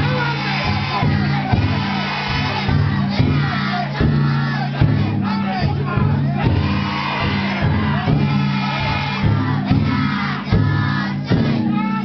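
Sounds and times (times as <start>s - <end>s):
big taiko drum beats: 0.0s - 12.0s
crowd shouting a chant: 0.0s - 12.0s.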